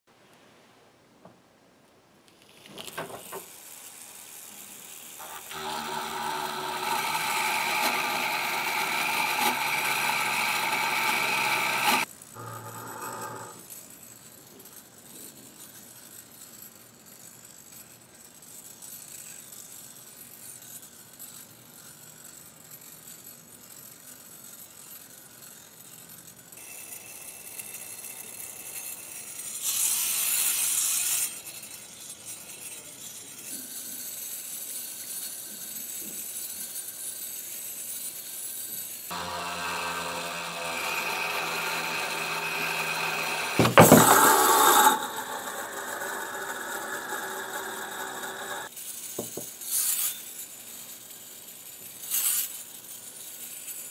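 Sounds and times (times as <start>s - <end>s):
gyroscope rotor humming: 2.4s - 53.9s.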